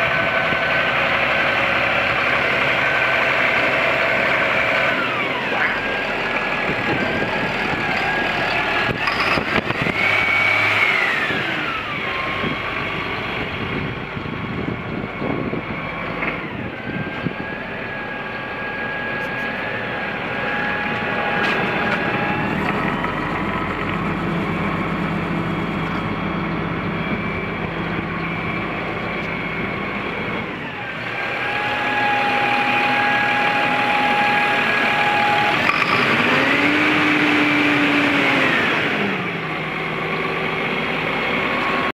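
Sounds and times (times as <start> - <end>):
high steady whine: 0.0 - 41.9
tractor diesel engine running: 0.0 - 41.9.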